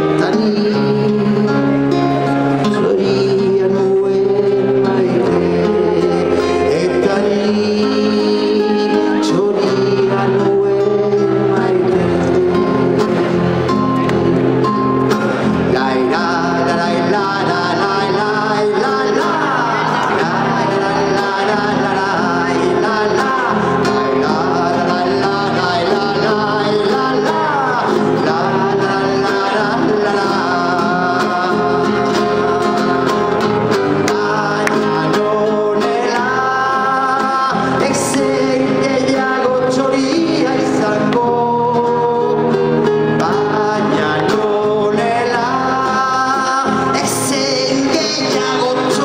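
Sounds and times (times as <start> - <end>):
acoustic guitar: 0.0 - 49.0
man singing: 0.0 - 49.0.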